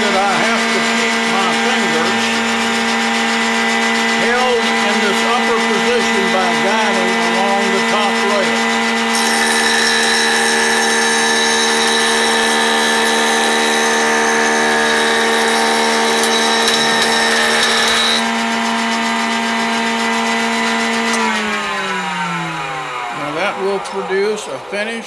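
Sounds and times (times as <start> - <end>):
cutter head planing board: 0.0 - 25.0
jointer motor hum: 0.0 - 25.0.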